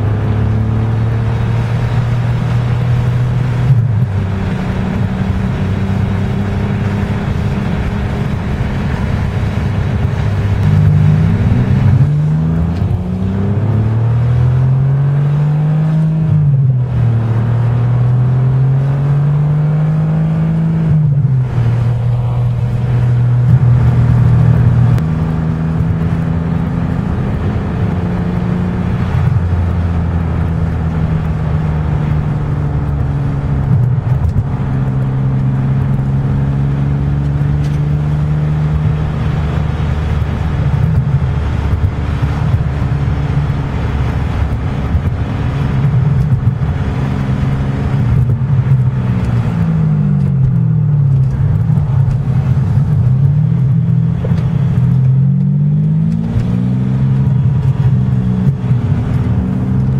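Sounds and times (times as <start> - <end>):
car engine accelerating and shifting: 0.0 - 59.9.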